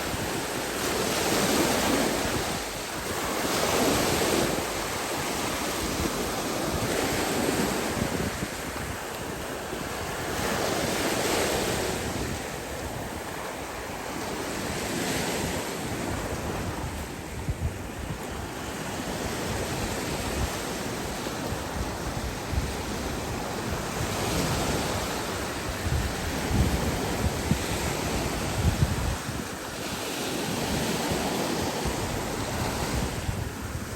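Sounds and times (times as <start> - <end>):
sea waves breaking on beach: 0.0 - 33.9
wind buffeting microphone: 0.0 - 33.9.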